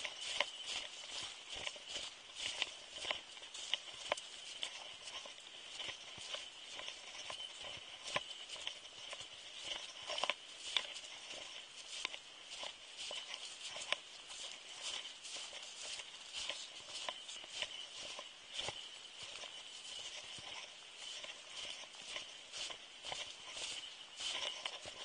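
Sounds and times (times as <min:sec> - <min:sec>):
footsteps in snow: 0:00.0 - 0:25.0.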